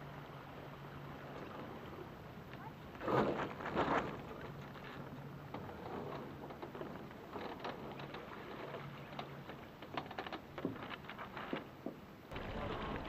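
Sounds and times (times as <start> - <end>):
water lapping and splashing: 0.0 - 13.0.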